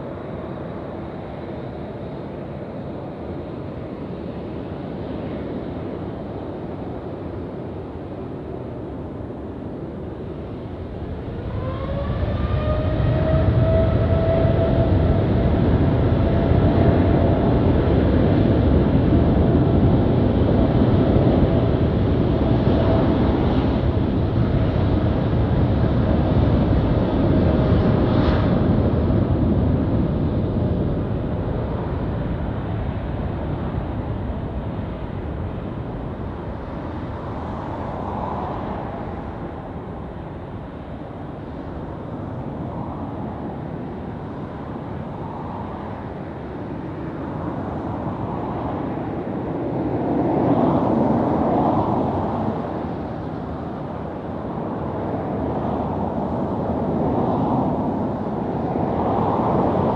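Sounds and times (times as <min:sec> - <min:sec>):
jet engine roar with whine: 0:00.0 - 0:59.9.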